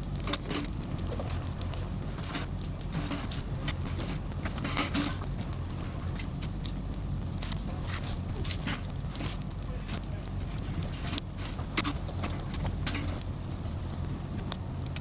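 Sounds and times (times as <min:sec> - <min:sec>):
brush fire crackling and popping: 0:00.0 - 0:15.0.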